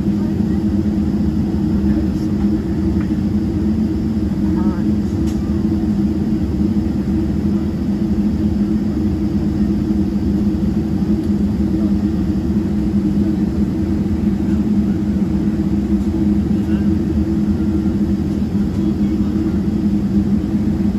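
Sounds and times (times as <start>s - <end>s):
jet engines idling in cabin: 0.0s - 20.9s.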